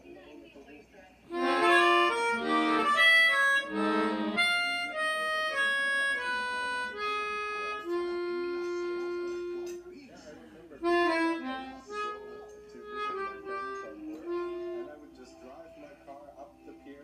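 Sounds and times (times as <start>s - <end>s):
melodica playing: 1.3s - 9.9s, 10.8s - 16.0s.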